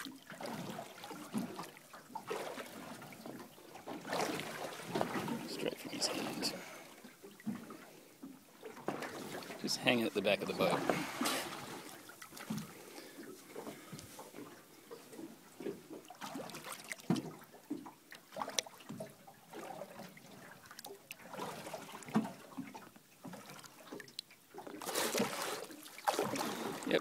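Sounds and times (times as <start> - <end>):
water lapping against boat: 0.0 - 27.0.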